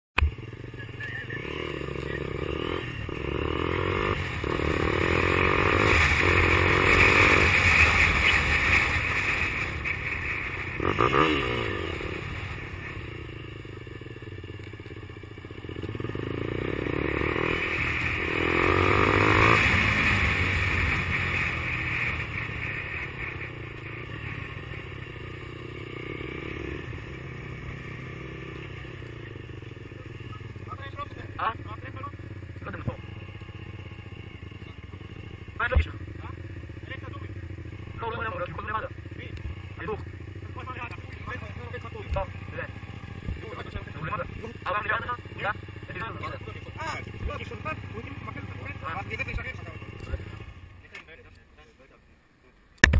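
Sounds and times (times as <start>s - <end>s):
motorcycle engine accelerating: 0.2s - 51.4s.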